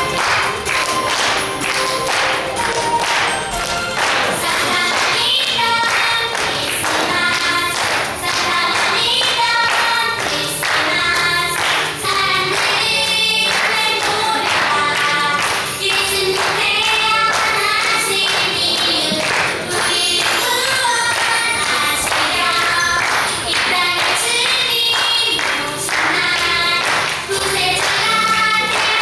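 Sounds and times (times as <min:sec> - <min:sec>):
musical accompaniment with beat: 0:00.0 - 0:29.0
women and children singing: 0:04.0 - 0:29.0.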